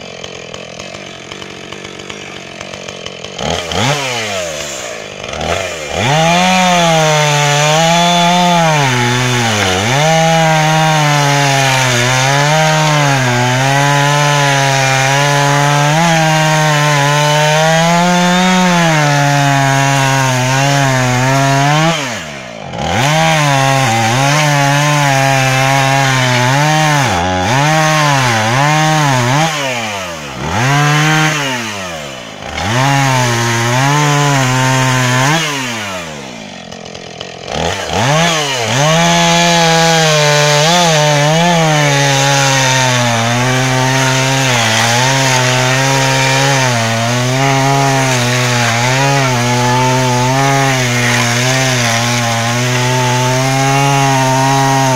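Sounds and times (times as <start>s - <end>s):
chainsaw cutting logs: 0.0s - 54.9s.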